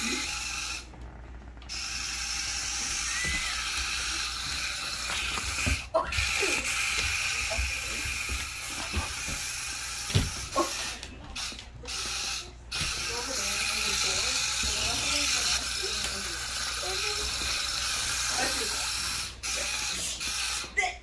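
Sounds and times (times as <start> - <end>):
toy motor and gears whirring: 0.0 - 1.0, 1.6 - 21.0.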